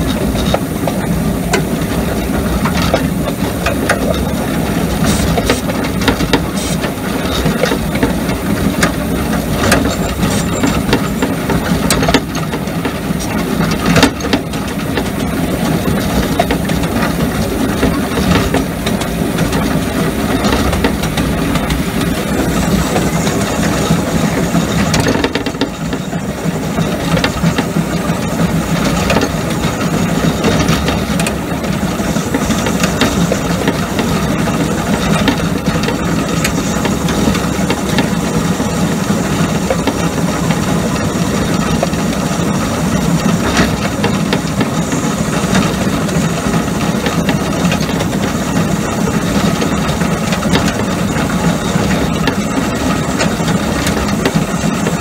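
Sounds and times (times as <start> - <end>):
miniature steam locomotive hissing: 0.0 - 55.0
wheels clicking and rattling on rails: 0.0 - 55.0.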